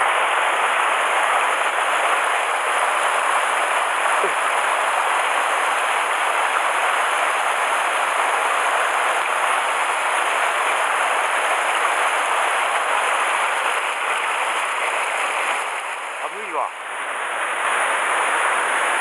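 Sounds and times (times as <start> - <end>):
stream rushing over boulders: 0.0 - 19.0.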